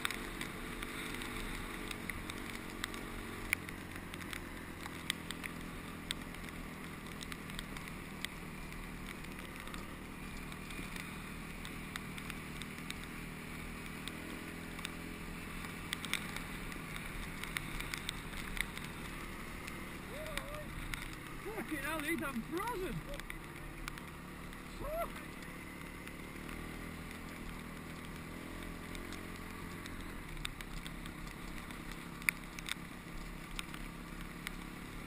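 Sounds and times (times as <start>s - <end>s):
sharp clicks: 0.0s - 13.2s, 13.8s - 35.0s
dirt bike engine running: 0.0s - 35.0s.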